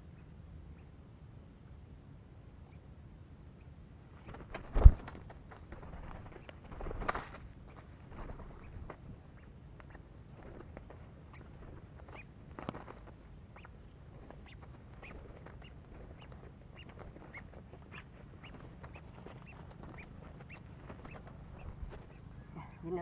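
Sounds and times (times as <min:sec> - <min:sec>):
low steady rumble: 0:00.0 - 0:23.0
birds calling: 0:03.5 - 0:23.0.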